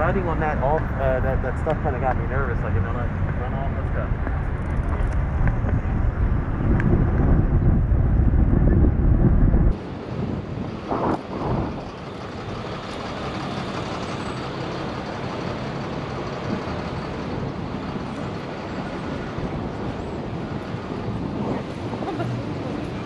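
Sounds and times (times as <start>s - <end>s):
city street traffic noise: 0.0s - 23.0s
passing vehicles: 0.0s - 23.0s
wind buffeting microphone: 0.0s - 23.0s.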